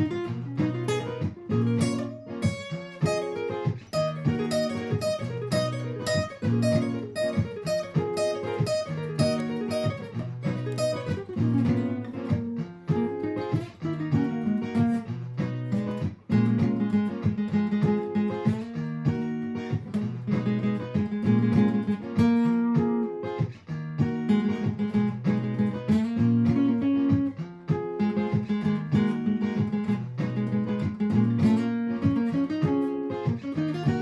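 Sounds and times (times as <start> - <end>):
picked guitar notes: 0.0 - 34.0
strummed guitar chord loop: 0.0 - 34.0.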